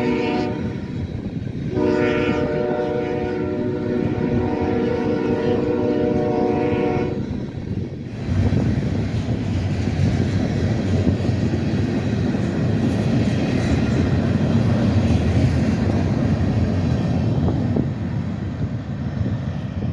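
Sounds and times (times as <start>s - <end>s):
freight train wheels rumbling: 0.0s - 19.9s.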